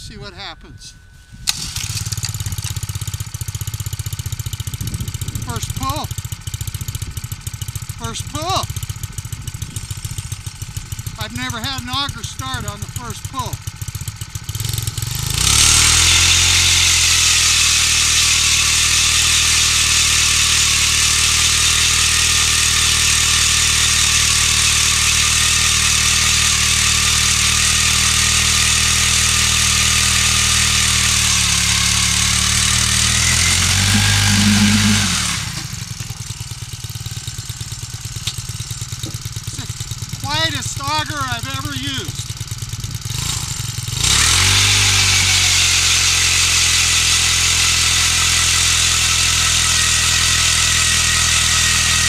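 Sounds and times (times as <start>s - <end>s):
ice auger engine drilling: 1.4s - 52.0s.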